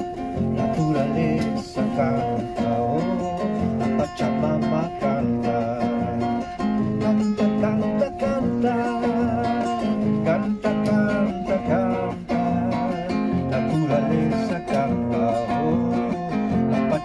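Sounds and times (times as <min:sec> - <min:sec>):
classical guitar strummed: 0:00.0 - 0:17.0
man singing: 0:00.0 - 0:17.0.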